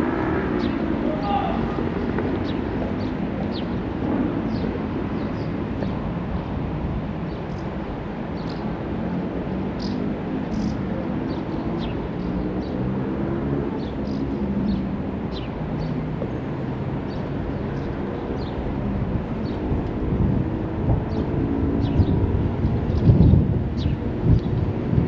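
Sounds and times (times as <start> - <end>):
small birds chirping: 0.3 - 6.6, 7.2 - 24.8.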